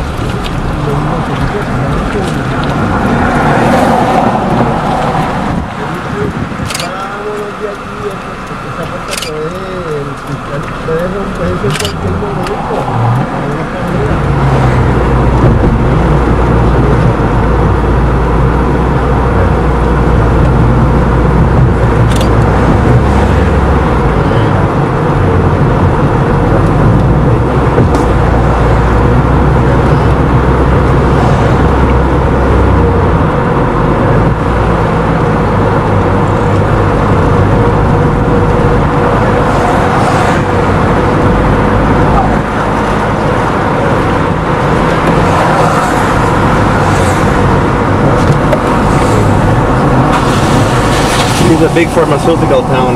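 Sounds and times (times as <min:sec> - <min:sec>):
car engine and tyre noise: 0:00.0 - 0:52.9.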